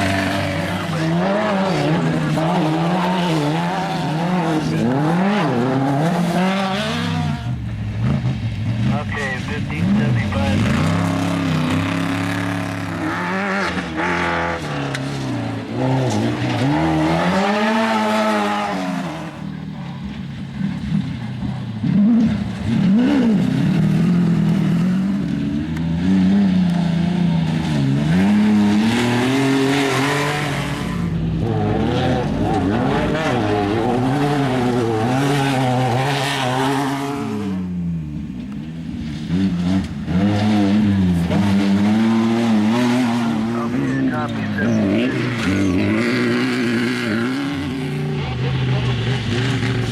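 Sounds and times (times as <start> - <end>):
race vehicle engine revving: 0.0 - 49.9.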